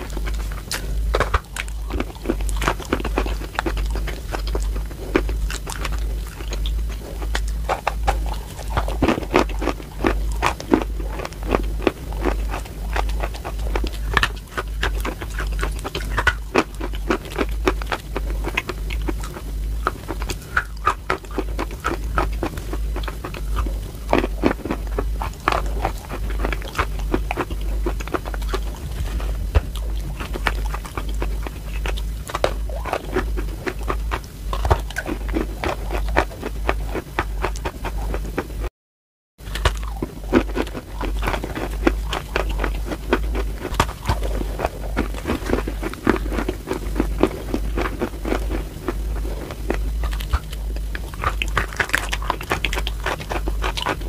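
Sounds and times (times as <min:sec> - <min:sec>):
crunchy chewing: 0:00.0 - 0:38.7, 0:39.4 - 0:54.0
steady low hum: 0:00.0 - 0:38.7, 0:39.4 - 0:54.0.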